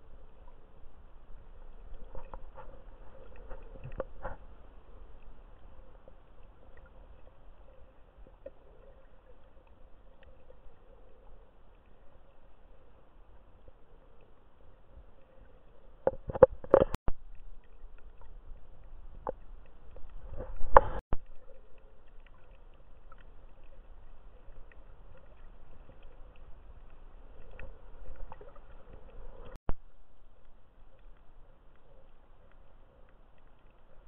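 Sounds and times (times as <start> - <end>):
light ticks: 1.4 - 34.0.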